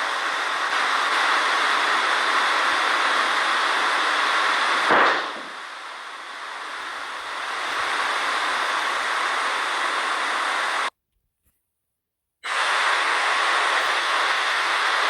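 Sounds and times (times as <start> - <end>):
steady hissing noise: 0.0 - 10.9, 12.4 - 15.0.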